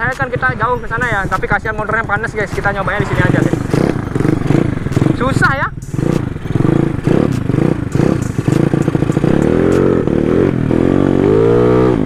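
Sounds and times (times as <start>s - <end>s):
scooter engine revving: 0.1s - 12.0s.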